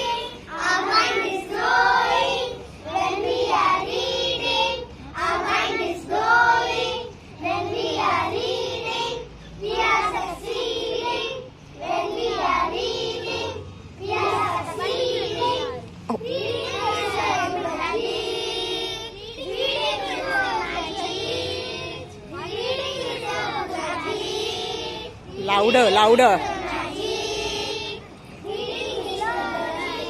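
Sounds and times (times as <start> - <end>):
child singing: 0.0 - 25.4, 26.4 - 30.0.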